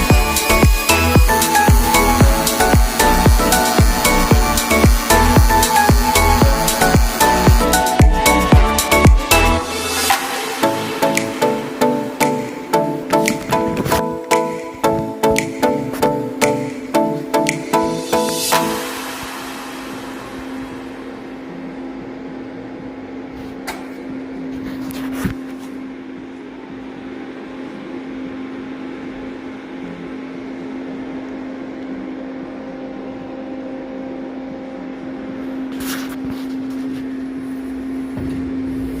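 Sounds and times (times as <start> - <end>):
machine hum with fan whir: 0.0 - 39.0.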